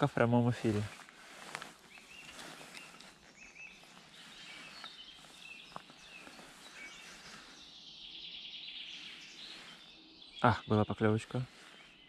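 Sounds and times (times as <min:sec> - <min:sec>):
faint birdsong chirps: 0:00.0 - 0:12.0.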